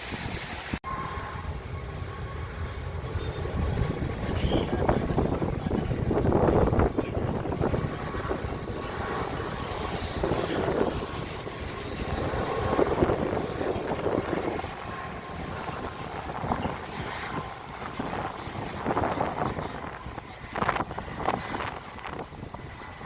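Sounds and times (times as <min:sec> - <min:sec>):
jet engine rush with whine: 0:00.0 - 0:23.0.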